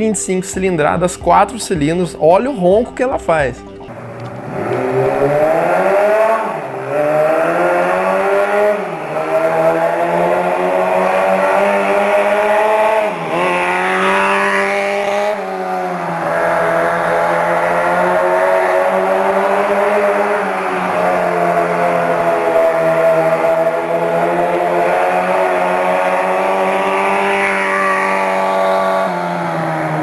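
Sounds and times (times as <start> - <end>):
motorcycle engine revving high: 0.0 - 30.0.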